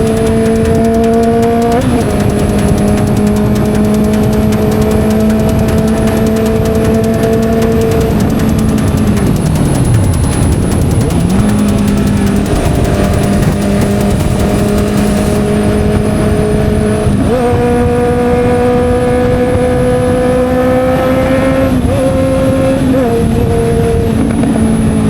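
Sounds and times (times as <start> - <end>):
motorcycle engine while riding: 0.0 - 25.0.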